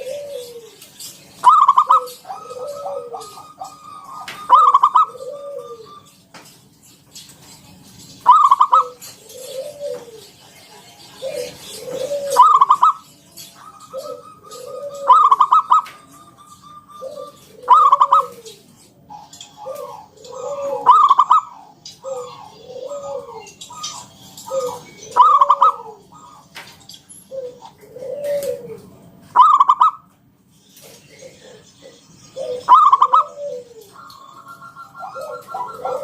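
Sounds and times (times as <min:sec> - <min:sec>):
dove cooing: 0:00.0 - 0:06.6, 0:07.4 - 0:30.1, 0:30.7 - 0:36.0.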